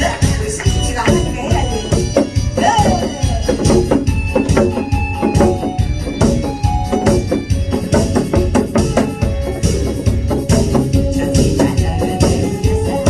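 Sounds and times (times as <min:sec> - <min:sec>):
held keyboard notes: 0:00.0 - 0:13.0
steady drum beat: 0:00.0 - 0:13.0.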